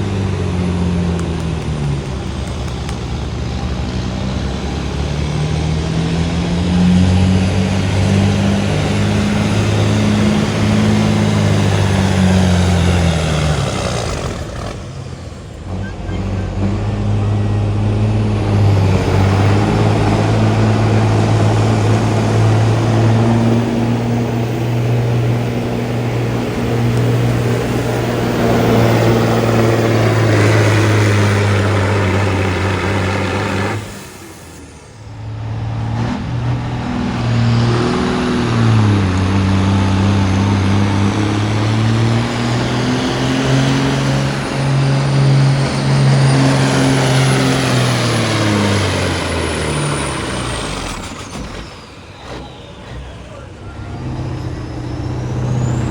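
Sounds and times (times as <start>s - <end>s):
engine droning at high revs: 0.0s - 55.9s.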